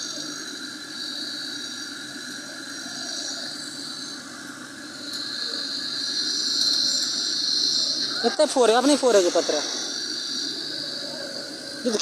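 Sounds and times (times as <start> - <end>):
constant high hiss: 0.0 - 12.0.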